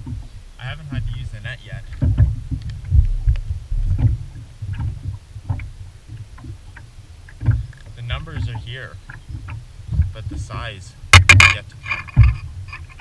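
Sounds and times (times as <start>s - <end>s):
fish handling clicks and rustles: 0.0s - 13.0s
waves slapping against boat hull: 0.0s - 13.0s.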